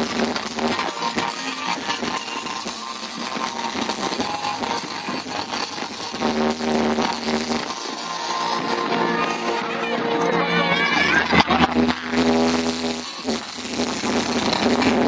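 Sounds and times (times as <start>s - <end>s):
dense crackling noise: 0.0s - 15.0s
loud guitar music: 0.0s - 15.0s.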